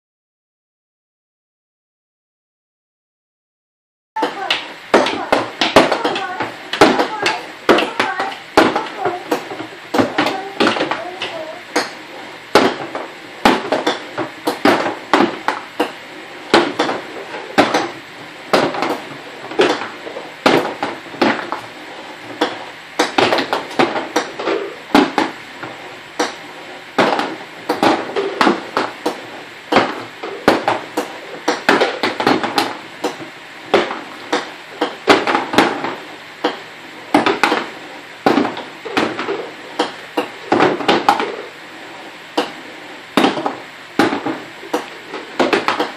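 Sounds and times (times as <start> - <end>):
golf balls knocking and clattering: 4.2 - 45.9.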